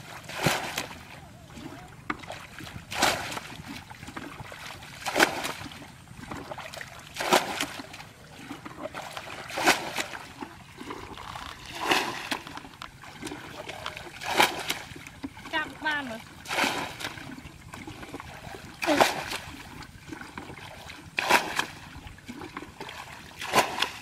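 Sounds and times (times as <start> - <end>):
water splashing onto mud: 0.0 - 22.0, 22.8 - 24.0.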